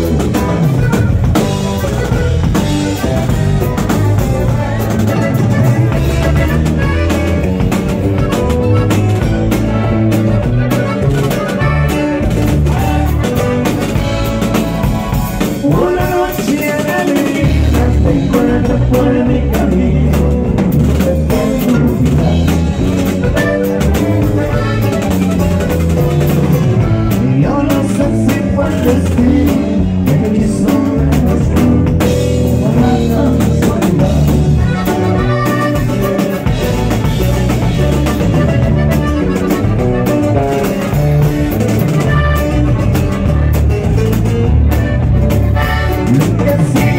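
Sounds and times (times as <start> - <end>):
button accordion melody: 0.0 - 46.9
drum kit beat: 0.0 - 46.9
guitar: 0.0 - 46.9.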